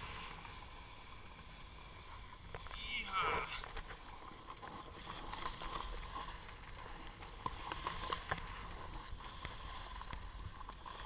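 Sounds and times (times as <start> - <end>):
skis carving over snow: 0.0 - 11.0.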